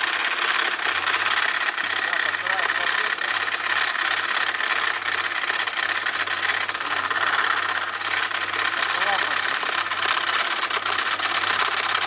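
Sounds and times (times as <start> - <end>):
timing belt clattering rattle: 0.0 - 12.0.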